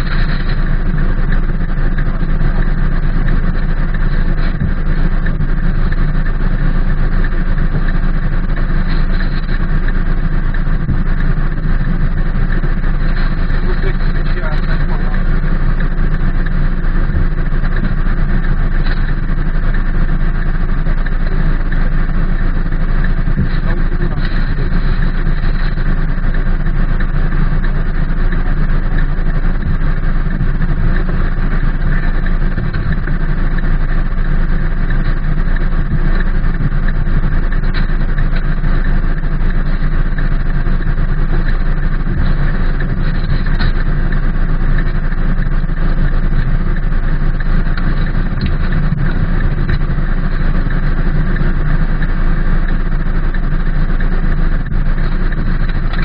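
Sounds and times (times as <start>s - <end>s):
low rumble: 0.0s - 56.0s
rain on car roof and windows: 0.0s - 56.0s.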